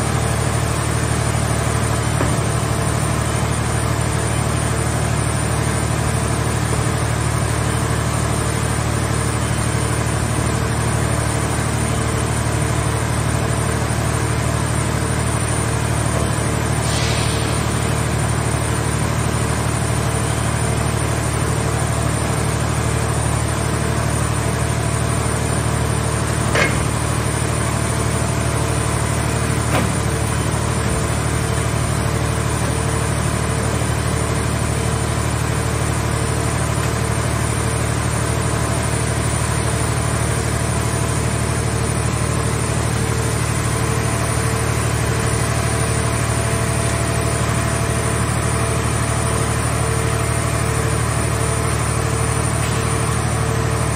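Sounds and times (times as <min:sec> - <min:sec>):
baler engine and hydraulic unit running: 0:00.0 - 0:53.9.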